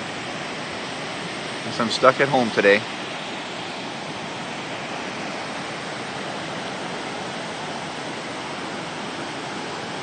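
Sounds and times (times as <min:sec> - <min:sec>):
floodwater rushing over gravel road: 0:00.0 - 0:10.0.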